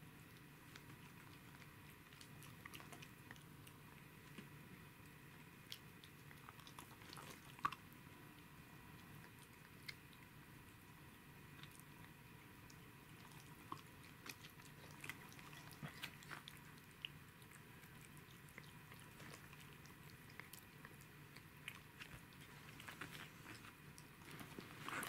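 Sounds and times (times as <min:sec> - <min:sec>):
cat chewing: 0:00.1 - 0:25.0.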